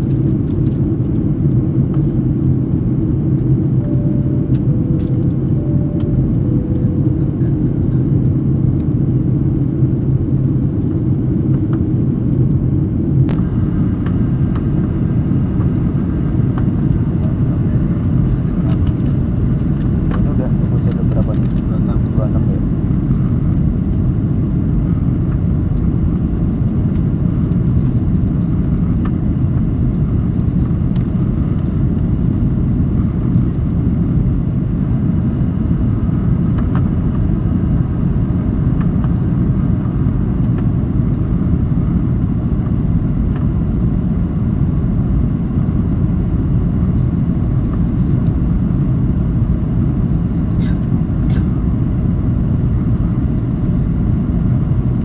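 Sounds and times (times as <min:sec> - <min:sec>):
aircraft engine rumble: 0:00.0 - 0:55.0.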